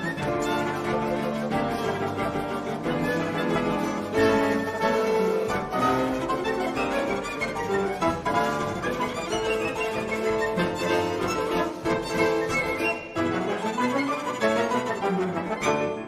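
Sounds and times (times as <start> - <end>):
bowed strings: 0.0 - 16.0
violin playing busy melody: 0.0 - 16.0.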